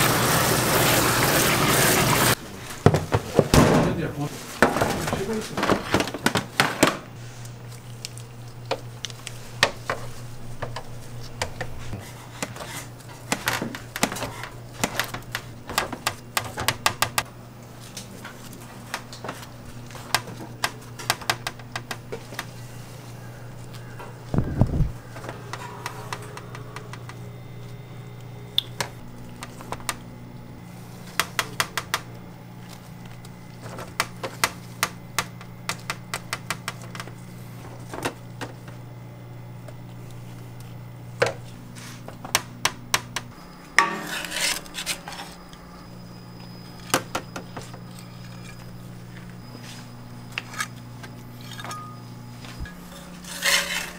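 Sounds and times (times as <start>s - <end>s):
steady low hum: 2.3s - 53.9s.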